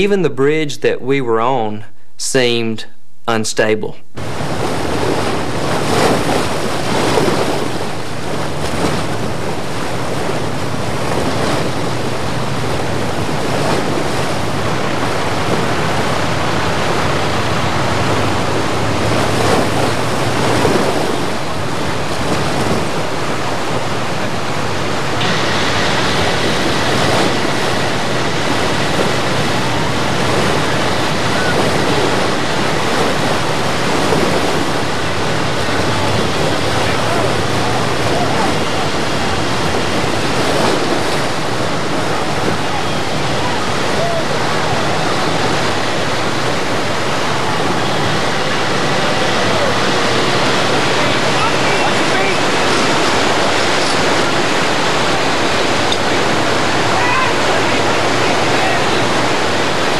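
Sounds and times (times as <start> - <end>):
fast water rushing: 0.0 - 2.7, 3.3 - 59.9.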